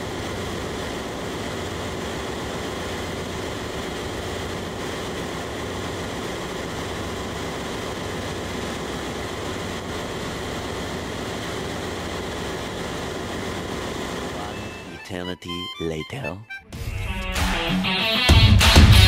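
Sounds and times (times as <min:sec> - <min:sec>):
engine room machinery hum: 0:00.0 - 0:19.0.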